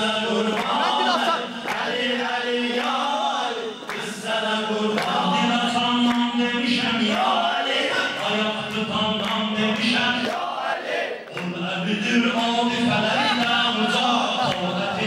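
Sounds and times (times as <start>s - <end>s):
lead male voice chanting: 0.0s - 10.4s, 11.4s - 15.0s.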